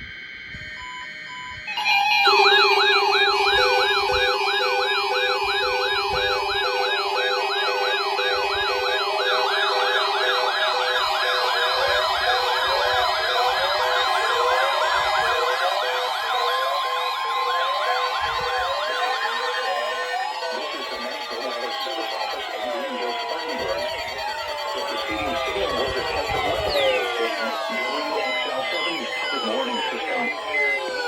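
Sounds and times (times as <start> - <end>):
electronic sirens yelping: 0.0 - 31.0
siren falling sweeps: 0.0 - 31.0
steady high siren tone: 0.0 - 31.0.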